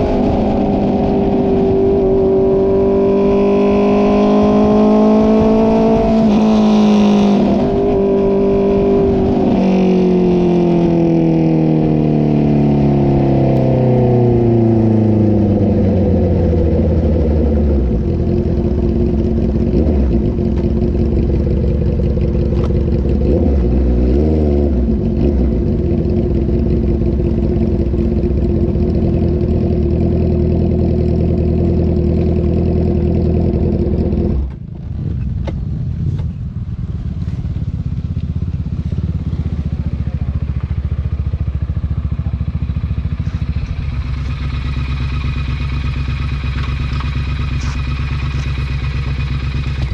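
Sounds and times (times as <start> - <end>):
motorcycle engine revving and idling: 0.0 - 49.9.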